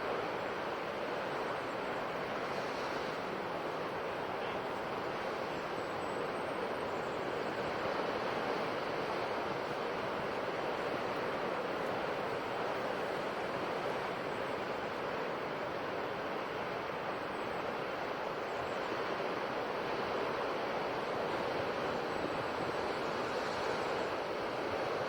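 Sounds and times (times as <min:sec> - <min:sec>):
ocean surf waves: 0:00.0 - 0:25.0.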